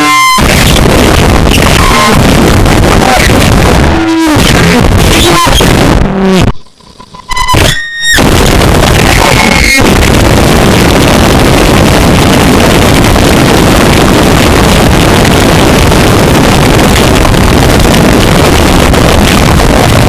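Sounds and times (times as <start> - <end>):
harsh distorted noise music: 0.0 - 20.0.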